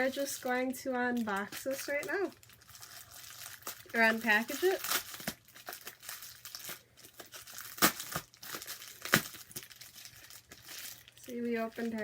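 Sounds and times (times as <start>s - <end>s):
package tearing and crinkling: 1.1s - 12.0s.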